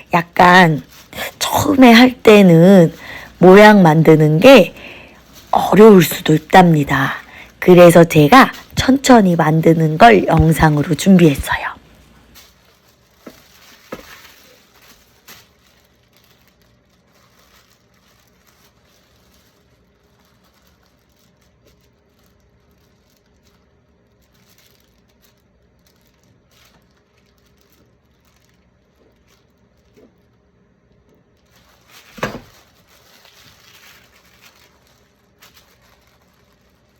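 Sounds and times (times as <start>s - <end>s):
soft dough rustling: 0.0s - 36.9s.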